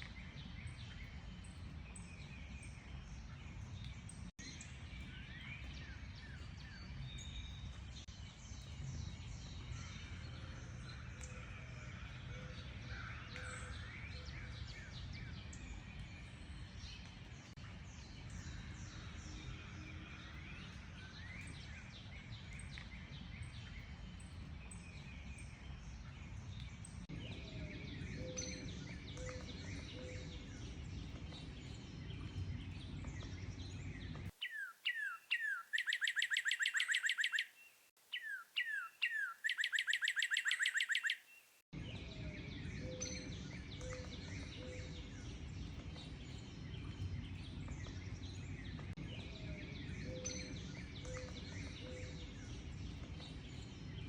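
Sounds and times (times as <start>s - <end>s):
single bird song with trill: 0.0s - 10.1s, 13.4s - 54.0s
many birds chirping: 8.6s - 54.0s.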